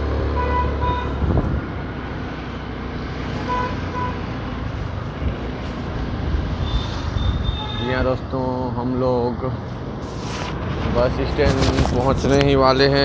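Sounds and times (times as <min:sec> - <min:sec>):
traffic rumble: 0:00.0 - 0:13.0
wind and road noise: 0:00.0 - 0:13.0.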